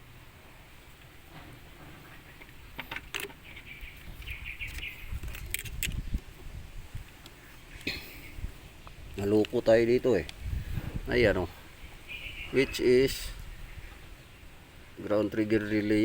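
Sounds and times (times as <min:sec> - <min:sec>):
birds chirping: 0:00.8 - 0:16.0.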